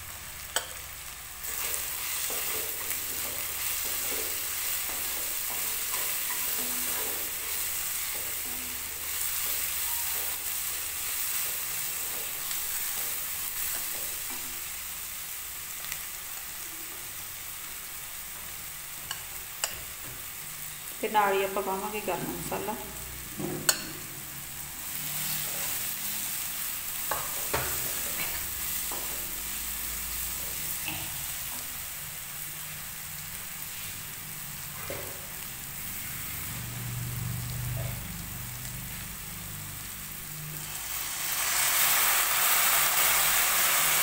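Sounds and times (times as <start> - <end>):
masala sizzling in oil: 0.0 - 44.0.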